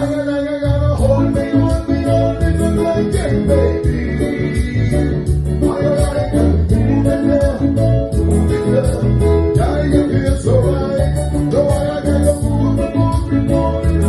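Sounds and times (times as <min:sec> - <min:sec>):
bass line: 0:00.0 - 0:14.0
guitar: 0:00.0 - 0:14.0
person singing: 0:00.0 - 0:14.0.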